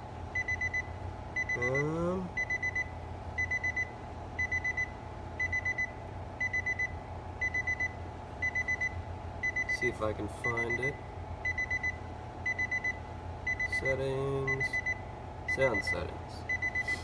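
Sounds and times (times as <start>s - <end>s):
low steady hum: 0.0s - 17.0s
vehicle warning chime beeping: 0.4s - 17.0s.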